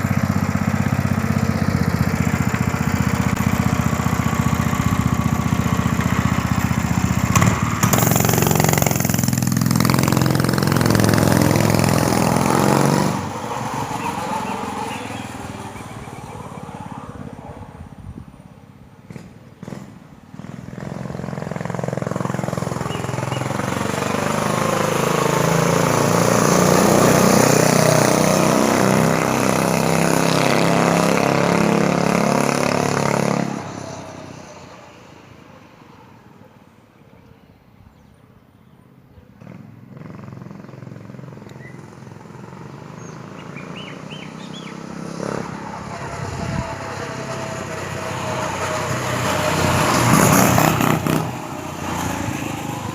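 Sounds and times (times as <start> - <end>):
minibike engine passing by: 0.0 - 18.2, 19.1 - 36.3, 39.4 - 52.9.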